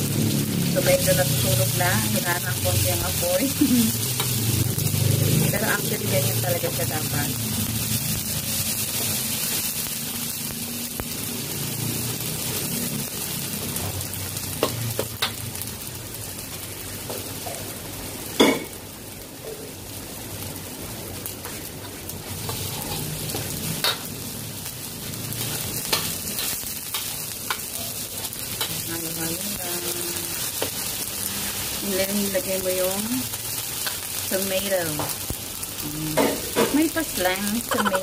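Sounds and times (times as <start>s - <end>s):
paste sizzling in oil: 0.0s - 38.0s.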